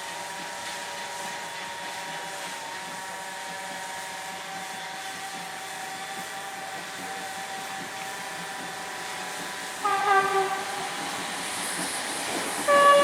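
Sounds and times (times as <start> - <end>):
steam hissing: 0.0 - 13.0.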